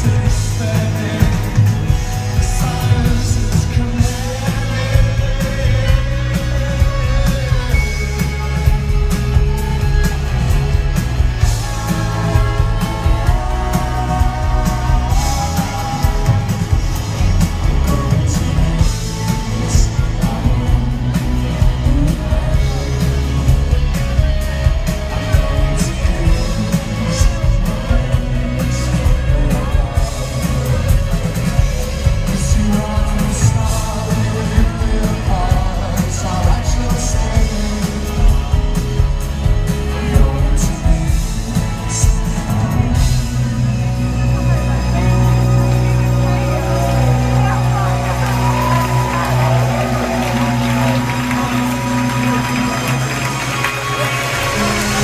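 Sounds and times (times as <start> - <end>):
drums: 0.0 - 55.0
electric guitar: 0.0 - 55.0
heavy bass: 0.0 - 55.0
keyboards: 0.0 - 55.0
man singing lead vocal: 0.0 - 55.0.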